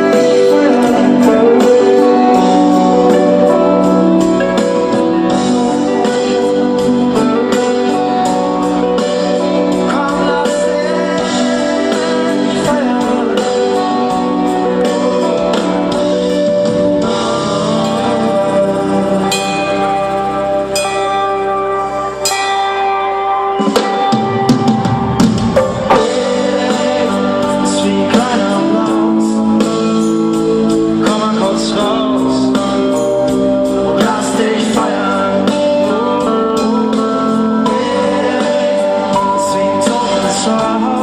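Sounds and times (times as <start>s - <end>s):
person singing: 0.0s - 21.5s, 25.6s - 41.0s
drums: 0.0s - 41.0s
guitar: 0.0s - 41.0s
live band playing pop music: 0.0s - 41.0s.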